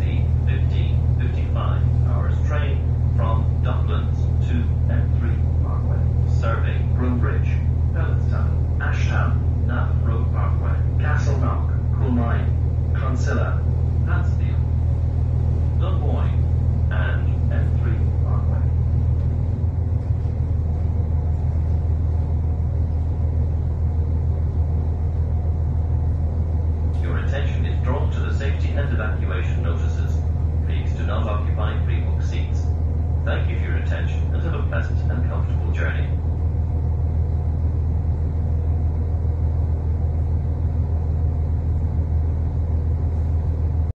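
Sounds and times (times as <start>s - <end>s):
faint steady hum: 0.0s - 43.9s
railcar diesel engine droning: 0.0s - 43.9s.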